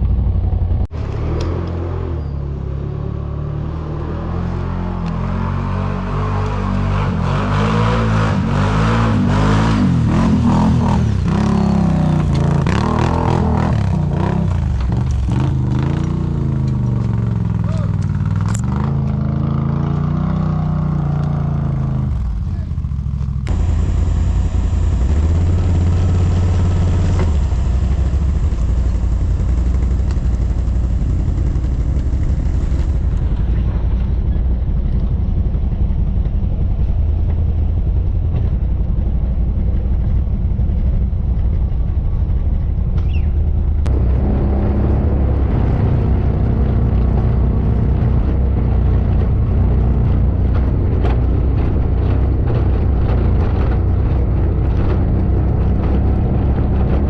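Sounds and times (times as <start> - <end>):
quad bike engine running: 6.2 - 57.0.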